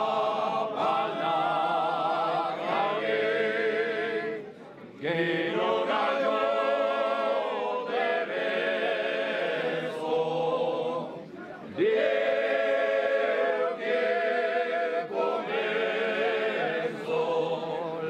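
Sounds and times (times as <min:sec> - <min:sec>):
unaccompanied choir singing: 0:00.0 - 0:18.0.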